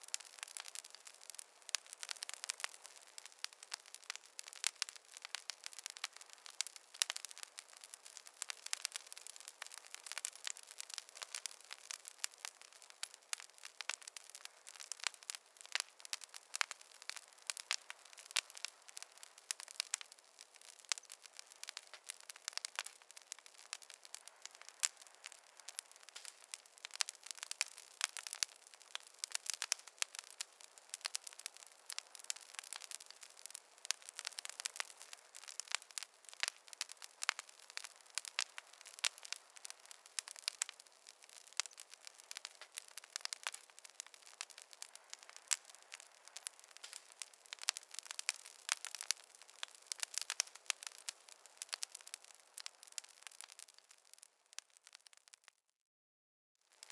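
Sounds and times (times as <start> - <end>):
sharp pops and snaps: 0.0 - 55.6, 56.7 - 56.9
wood fire crackling: 0.0 - 55.6, 56.6 - 56.9.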